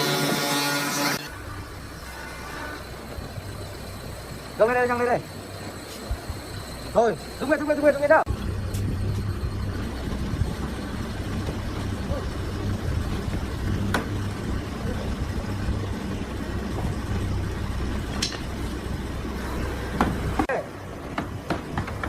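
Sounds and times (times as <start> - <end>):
engine idling: 1.3 - 20.4.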